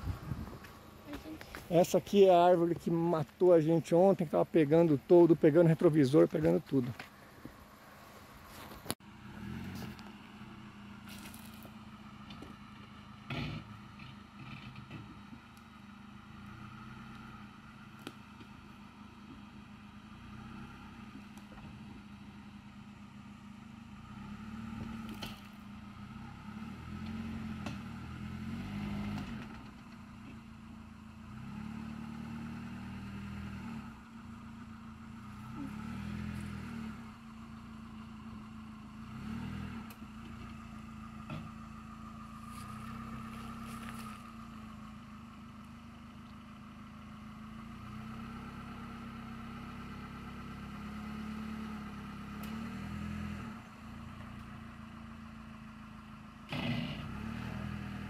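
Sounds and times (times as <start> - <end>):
suv engine revving: 0.0 - 58.0.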